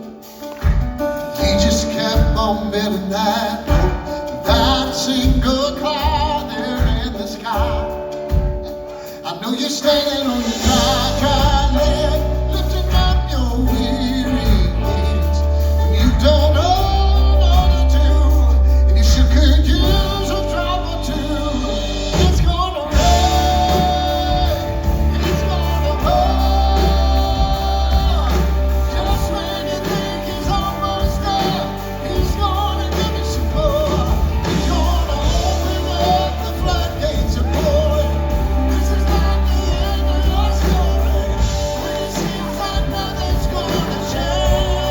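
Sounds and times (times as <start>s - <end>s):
band with heavy bass: 0.0s - 44.9s
gospel singing: 0.0s - 44.9s.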